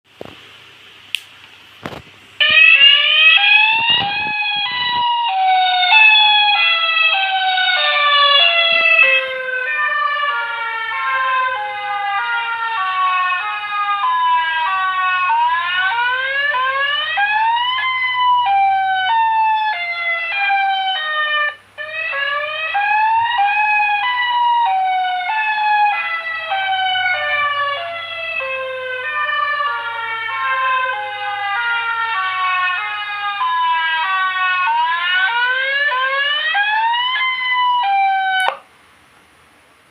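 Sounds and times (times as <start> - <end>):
tornado warning siren sweeping: 2.4 - 38.6.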